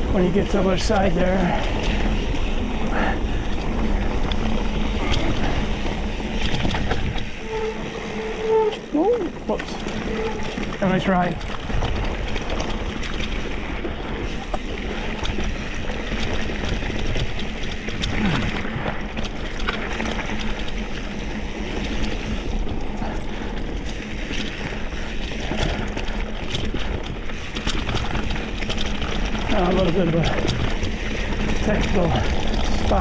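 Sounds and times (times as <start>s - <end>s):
bike rattling and clicking: 0.0s - 33.0s.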